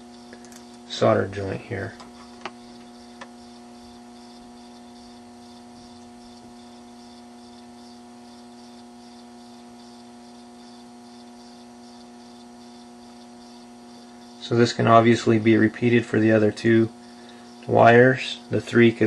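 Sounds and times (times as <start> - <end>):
electrical hum: 0.0 - 19.0
faint high pulsing: 0.0 - 19.0.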